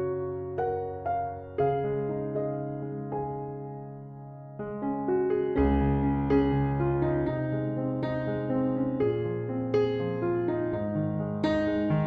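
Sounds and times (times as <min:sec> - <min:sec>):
slow electric piano music: 0:00.0 - 0:12.0.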